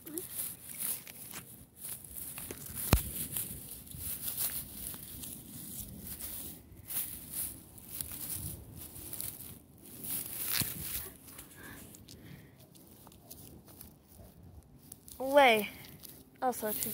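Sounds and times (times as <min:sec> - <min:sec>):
dry grass rustling: 0:00.0 - 0:16.9.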